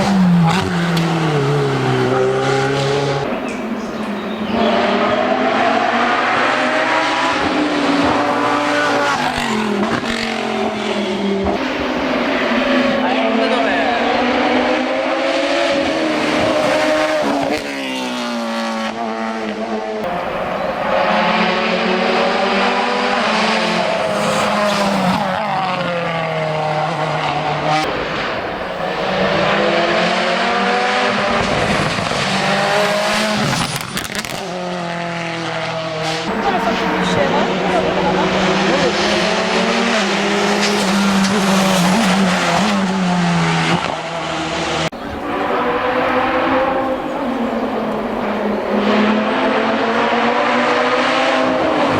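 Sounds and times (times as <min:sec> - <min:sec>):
race car engine at high revs: 0:00.0 - 0:51.9.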